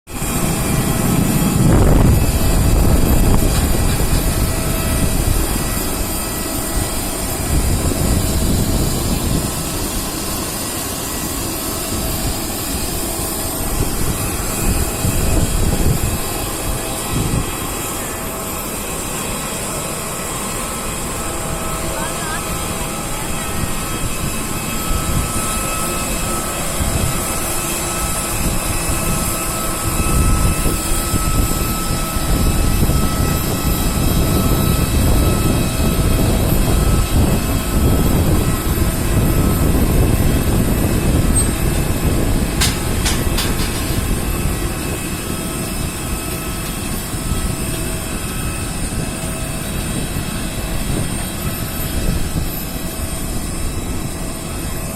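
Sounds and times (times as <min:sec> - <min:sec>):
jet engines whining: 0:00.1 - 0:54.9.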